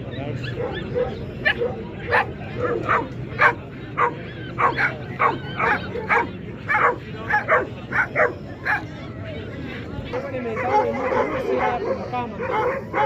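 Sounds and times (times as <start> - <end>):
dog barking and yipping: 0.4 - 8.8, 10.4 - 13.0.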